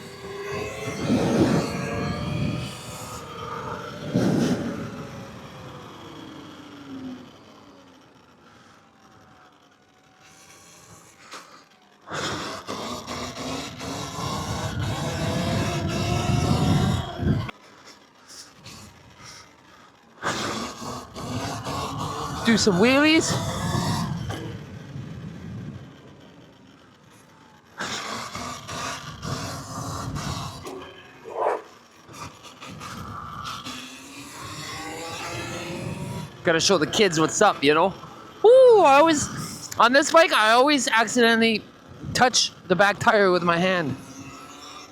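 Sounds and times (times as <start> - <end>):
motorcycle engine revving: 0.0 - 17.6, 18.8 - 44.9.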